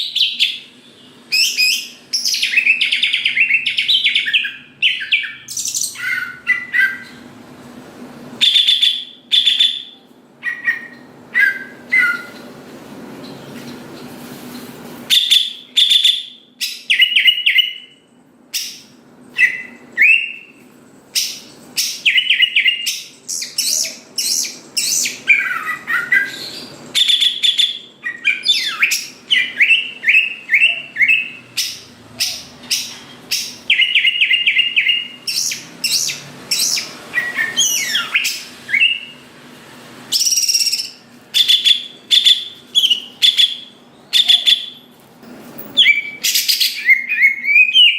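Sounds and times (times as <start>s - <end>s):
bird singing varied phrases: 0.0s - 7.3s, 8.4s - 12.5s, 15.1s - 39.2s, 40.1s - 44.9s, 45.8s - 47.9s.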